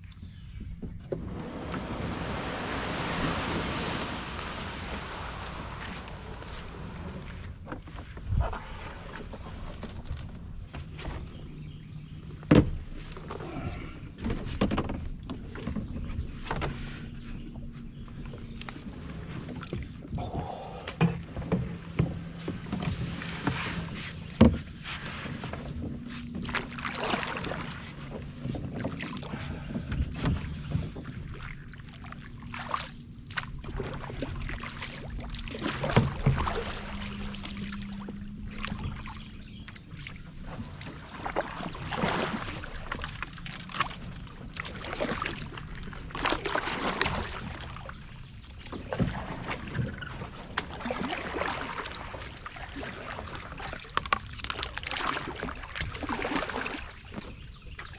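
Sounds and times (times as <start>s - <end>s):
canoe paddle strokes in water: 0.0s - 57.9s.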